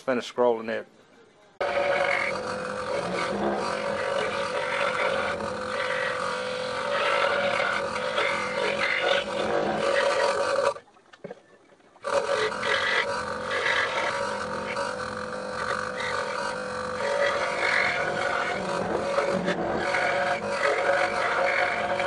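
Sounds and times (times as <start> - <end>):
scroll saw cutting wood: 1.6 - 10.8, 12.0 - 22.0.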